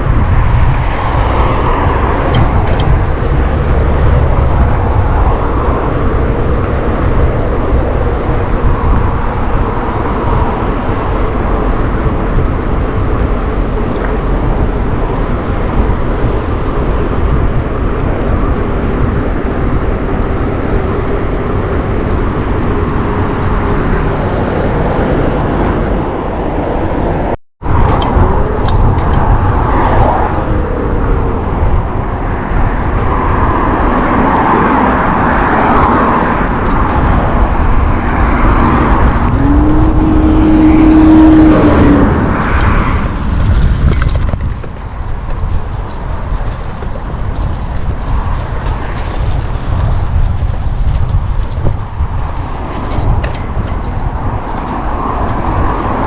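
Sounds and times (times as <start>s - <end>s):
cars passing: 0.0s - 56.0s
heavy traffic rumble: 0.0s - 56.0s.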